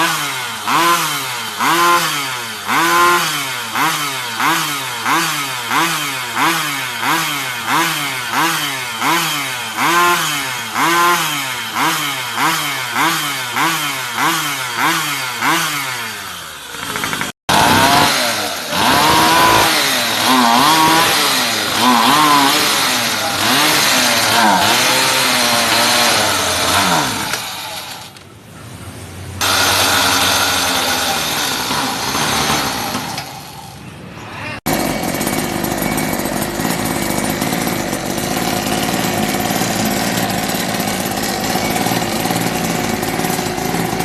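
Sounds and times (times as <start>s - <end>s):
motorbike engine revving: 0.0s - 28.3s, 29.0s - 44.0s.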